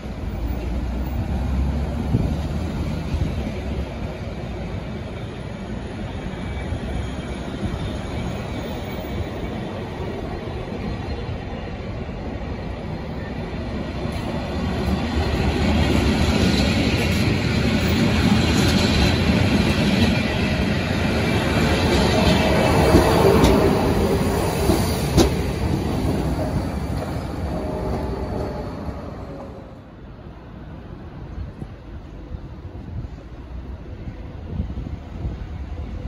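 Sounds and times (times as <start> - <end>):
train carriages rolling past: 0.0 - 36.0.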